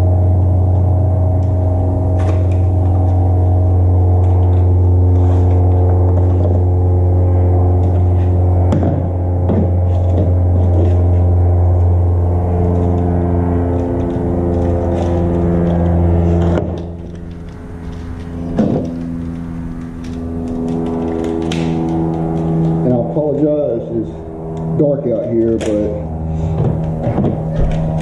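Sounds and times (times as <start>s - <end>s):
deep drone: 0.0s - 28.0s
sustained low chords: 0.0s - 28.0s.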